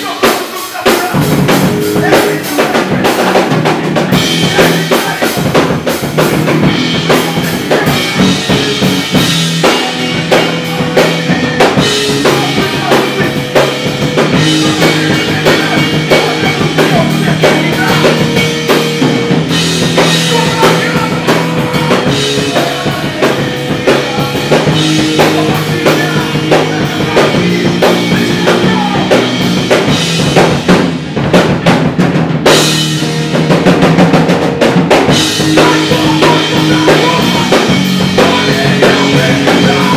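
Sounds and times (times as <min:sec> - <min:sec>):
bass guitar: 0:00.0 - 0:39.9
drum kit pounding: 0:00.0 - 0:39.9
electric guitars: 0:00.0 - 0:39.9.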